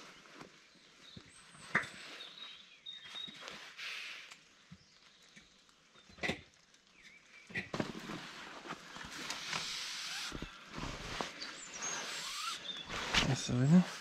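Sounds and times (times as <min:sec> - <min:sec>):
rope rustling and scraping on concrete: 0:00.0 - 0:05.7, 0:07.7 - 0:14.0.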